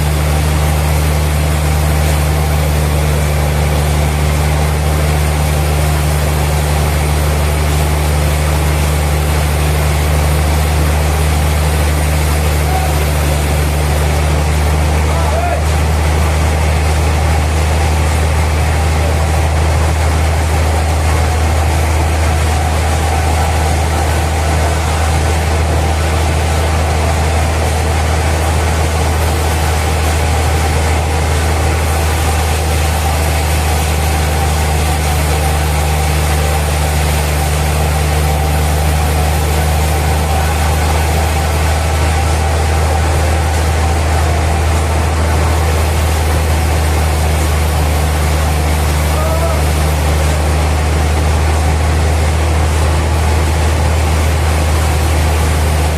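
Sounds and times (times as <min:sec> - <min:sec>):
sawmill machinery hum: 0:00.0 - 0:55.9.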